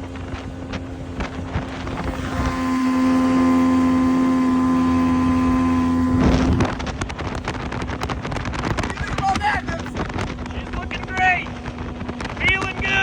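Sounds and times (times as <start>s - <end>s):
outboard motor running: 0.0s - 13.0s
wind on microphone: 0.0s - 13.0s.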